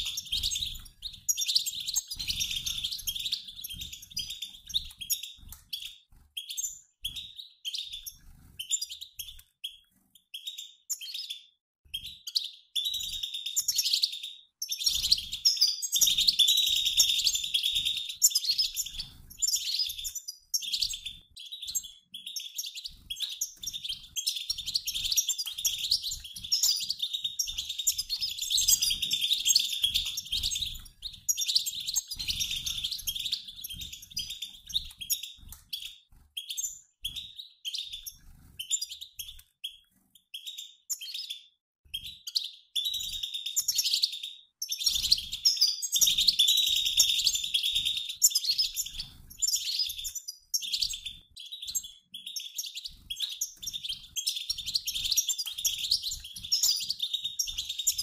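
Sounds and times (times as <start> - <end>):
finches calling and twittering: 0.0 - 58.0.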